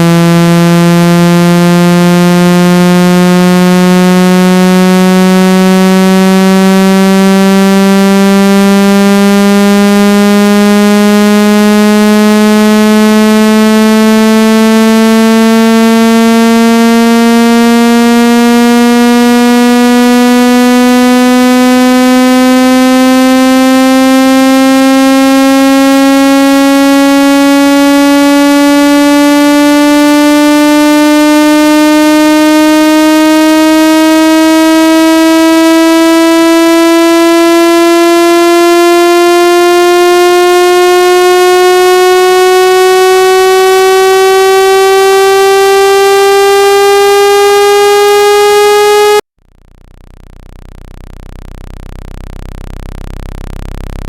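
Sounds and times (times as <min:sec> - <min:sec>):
buzzing tone rising in pitch: 0:00.0 - 0:54.0.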